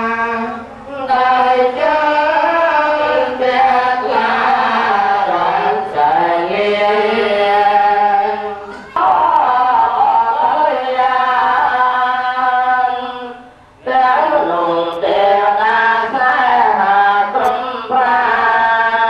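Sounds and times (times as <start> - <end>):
voices chanting long sliding notes: 0.0 - 19.0.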